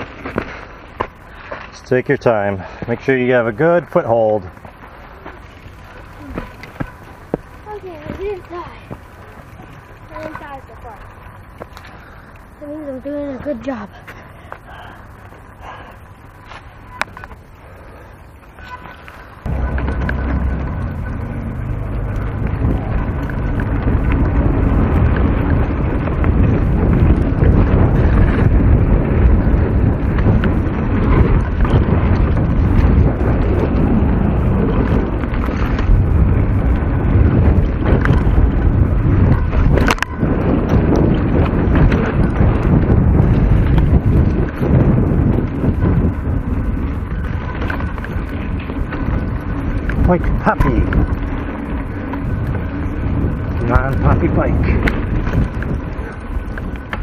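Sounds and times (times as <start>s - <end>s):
mountain bike rumbling and rattling: 0.0s - 57.0s
wind buffeting microphone: 0.0s - 57.0s.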